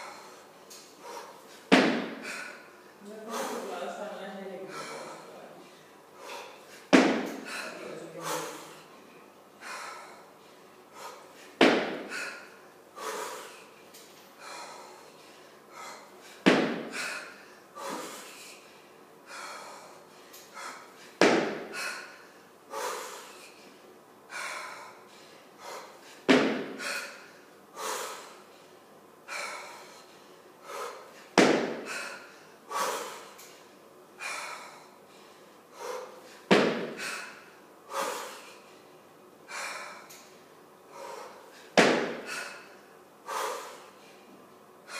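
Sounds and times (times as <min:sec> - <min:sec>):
woman breathing hard: 0:00.0 - 0:04.0, 0:04.6 - 0:44.9.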